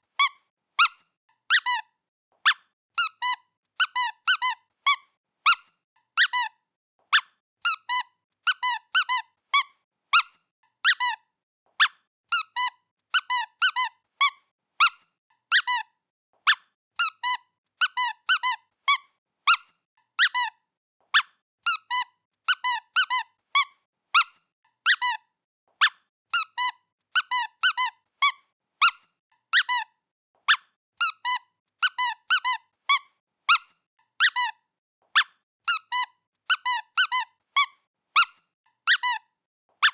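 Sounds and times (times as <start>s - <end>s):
squeaky cat toy squeaking: 0.1s - 39.9s.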